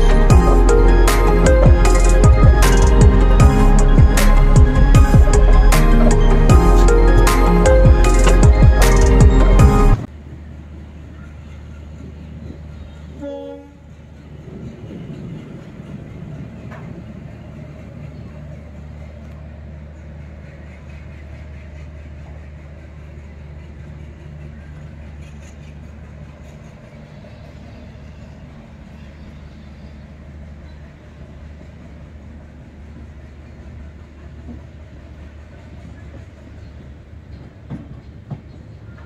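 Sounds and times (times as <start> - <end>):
train rumble: 0.0 - 39.0.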